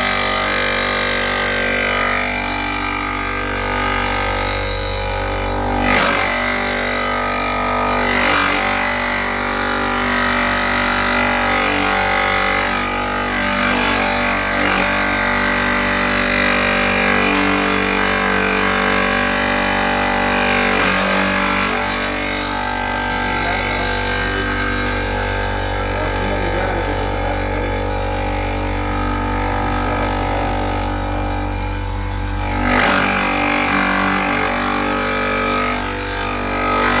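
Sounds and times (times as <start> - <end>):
saw motor droning while cutting stone: 0.0 - 37.0.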